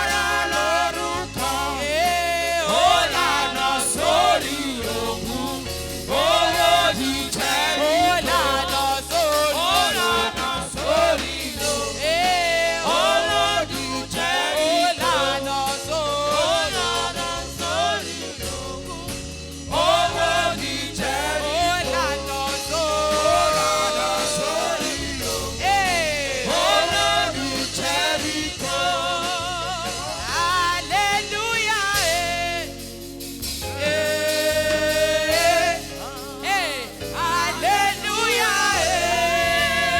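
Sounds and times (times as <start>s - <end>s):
band accompaniment: 0.0s - 39.9s
gospel singing: 0.0s - 39.9s.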